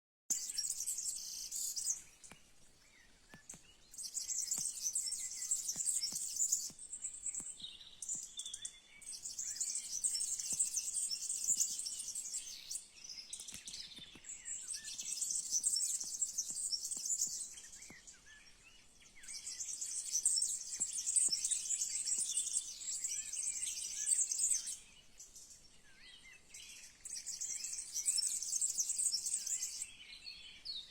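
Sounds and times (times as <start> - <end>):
birds chirping: 0.3 - 30.9.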